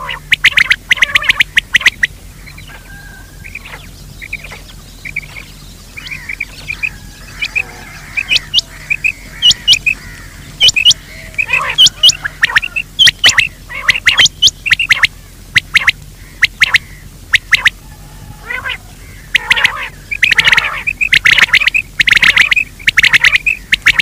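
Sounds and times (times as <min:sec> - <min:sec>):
gamebird calls: 0:00.0 - 0:24.0.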